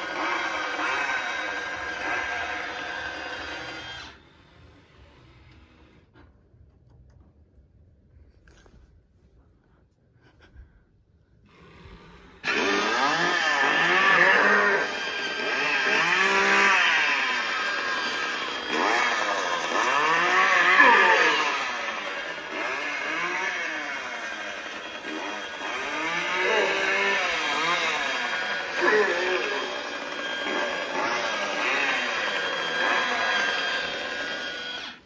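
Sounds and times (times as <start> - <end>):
chainsaw revving: 0.0 - 5.9, 11.5 - 35.0.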